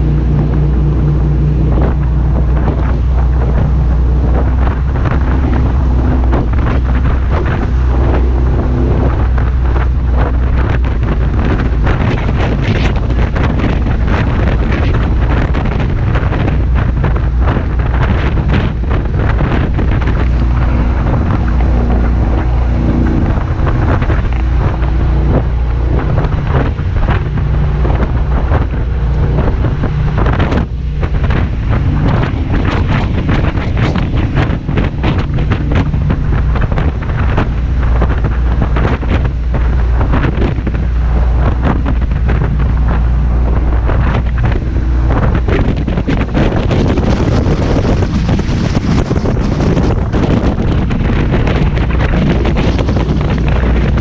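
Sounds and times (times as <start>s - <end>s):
jet boat engine drone: 0.0s - 54.0s
wind buffeting on microphone: 0.0s - 54.0s.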